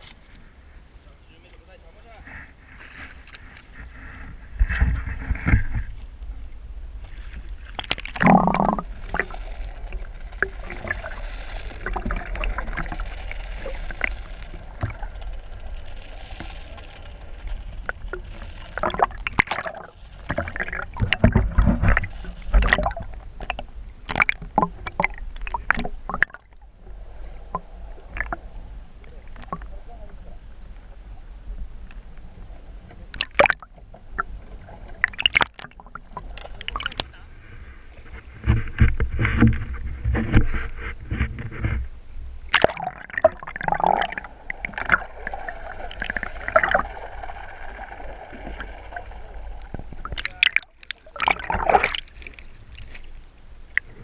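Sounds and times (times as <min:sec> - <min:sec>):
water sloshing around boat: 0:02.1 - 0:31.2, 0:32.0 - 0:54.0
low rumble: 0:02.5 - 0:35.1, 0:43.1 - 0:54.0.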